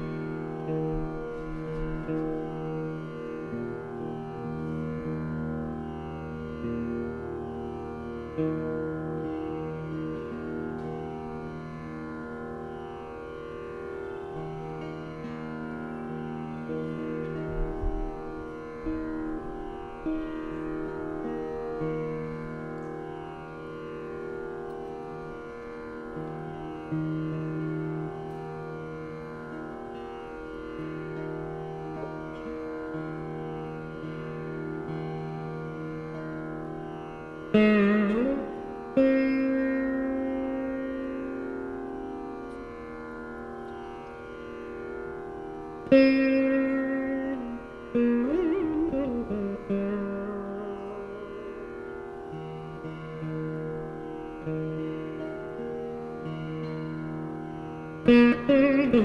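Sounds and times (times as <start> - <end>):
veena plucked melody: 0.0 - 59.0.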